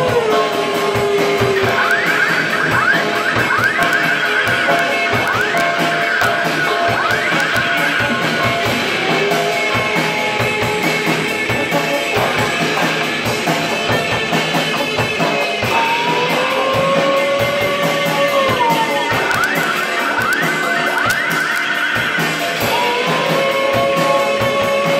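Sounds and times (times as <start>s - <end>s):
brass horns blowing: 0.0s - 24.9s
drum kit beat: 0.0s - 24.9s
electric guitar: 0.0s - 24.9s.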